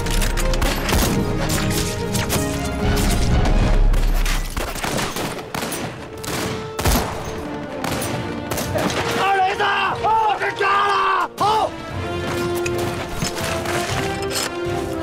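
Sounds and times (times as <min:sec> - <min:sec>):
dramatic music score: 0:00.0 - 0:15.0.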